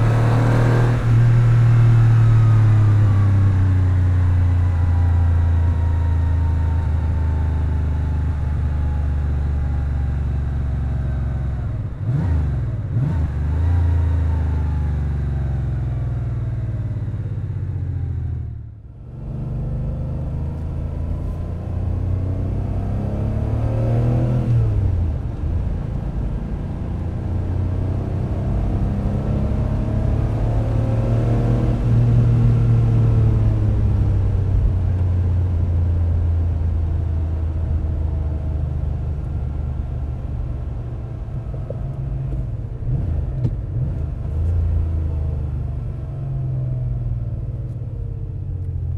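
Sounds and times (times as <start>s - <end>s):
car engine revving while driving: 0.0s - 16.2s, 19.1s - 47.7s.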